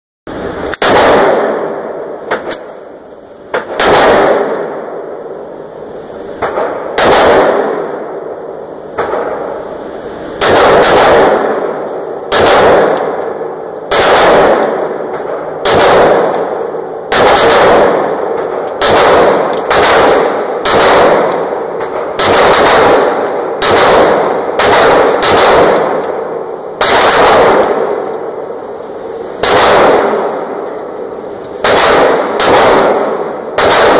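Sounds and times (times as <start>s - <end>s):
pistol shots echoing indoors: 0.7s - 5.6s, 6.4s - 9.7s, 10.4s - 33.9s.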